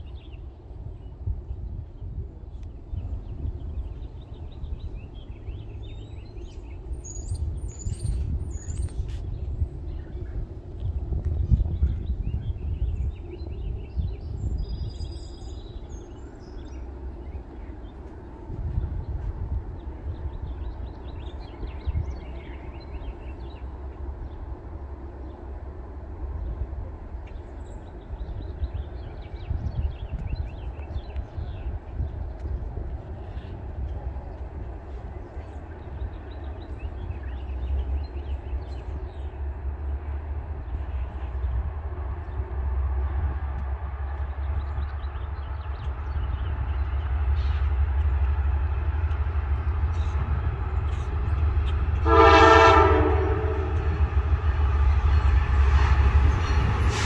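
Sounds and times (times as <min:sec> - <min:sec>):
songbirds chirping: 0:00.0 - 0:57.0
wind buffeting microphone: 0:00.0 - 0:57.0.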